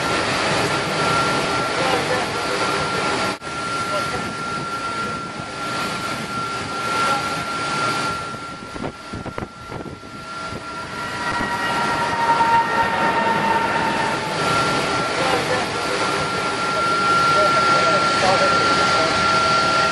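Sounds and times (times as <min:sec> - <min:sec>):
jet engine hiss and whine: 0:00.0 - 0:19.9.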